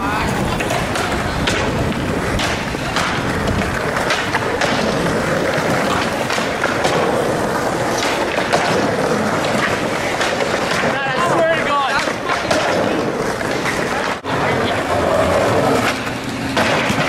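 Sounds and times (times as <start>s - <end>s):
skateboard clacks: 0.0s - 17.0s
skateboard grinding along ledge: 0.0s - 17.0s
skateboards rolling on pavement: 0.0s - 17.0s.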